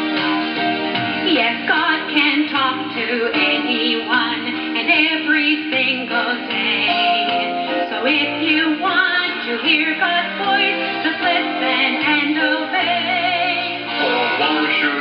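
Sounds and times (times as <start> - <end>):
instrumental backing: 0.0 - 15.0
woman singing a children's song: 1.3 - 13.8.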